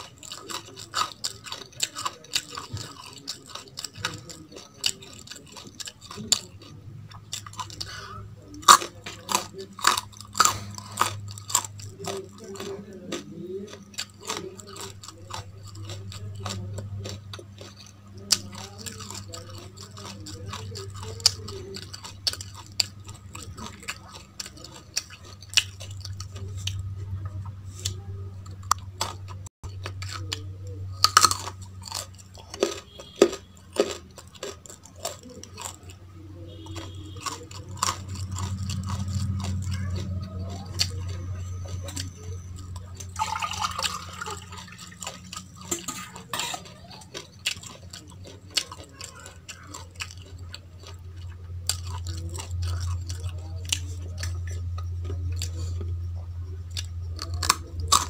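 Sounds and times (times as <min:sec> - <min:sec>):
crunchy chewing: 0:00.0 - 0:58.0
low steady hum: 0:00.0 - 0:58.0.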